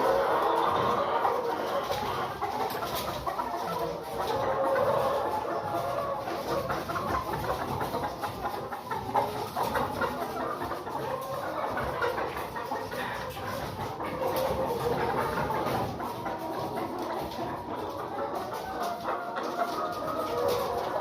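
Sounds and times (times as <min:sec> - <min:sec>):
hens clucking: 0:00.0 - 0:21.0.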